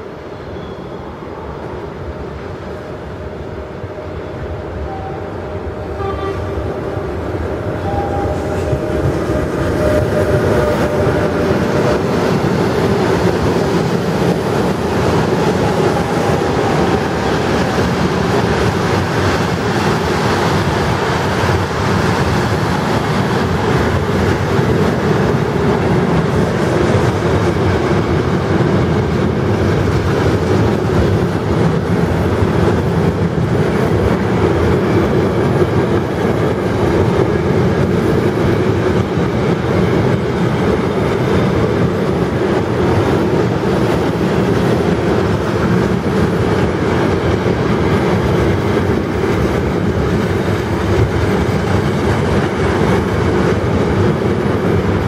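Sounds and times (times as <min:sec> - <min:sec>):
freight train wheels rolling: 0:00.0 - 0:55.0.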